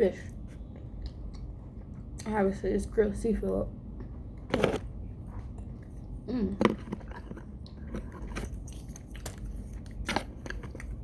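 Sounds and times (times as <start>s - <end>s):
person chewing food: 0.3s - 2.2s, 4.0s - 11.0s.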